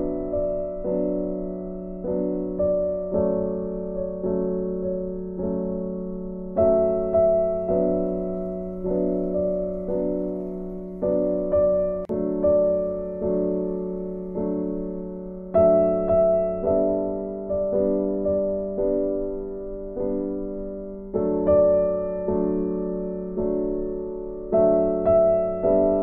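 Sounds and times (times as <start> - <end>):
soft piano music: 0.0 - 26.0.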